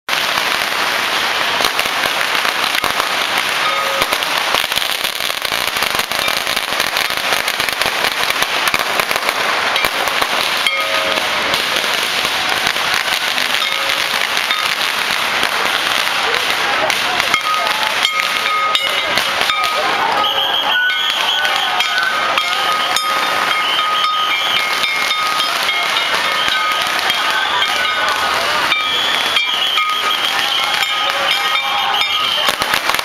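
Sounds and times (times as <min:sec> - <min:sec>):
firecrackers crackling: 0:00.1 - 0:33.0.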